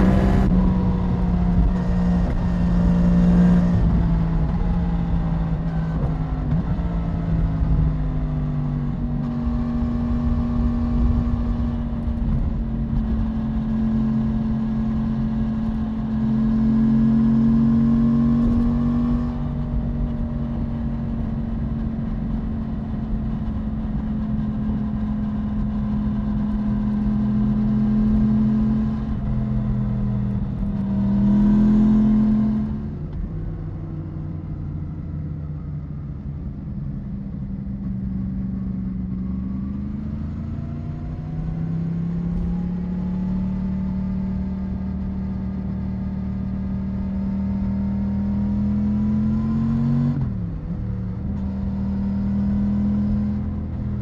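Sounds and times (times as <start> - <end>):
motorcycle engine running: 0.0 - 49.2.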